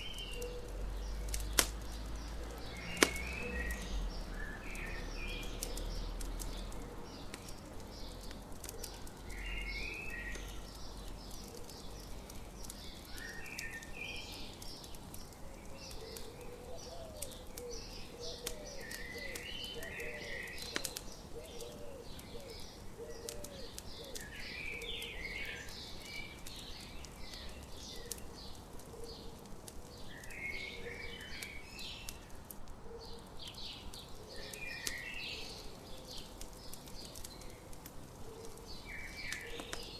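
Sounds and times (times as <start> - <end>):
birds singing: 0.0 - 39.9
campfire crackling and popping: 0.0 - 39.9.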